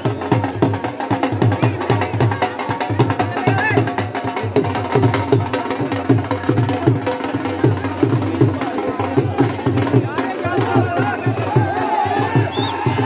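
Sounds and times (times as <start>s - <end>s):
drums beaten in quick rhythm: 0.0s - 13.0s.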